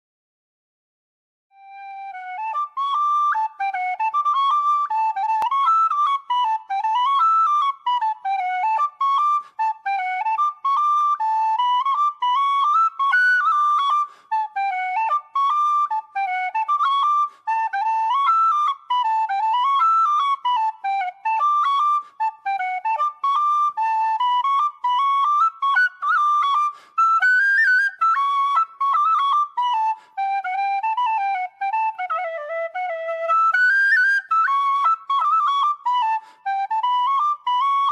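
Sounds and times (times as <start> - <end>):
solo flute playing lively tune: 1.5 - 37.9.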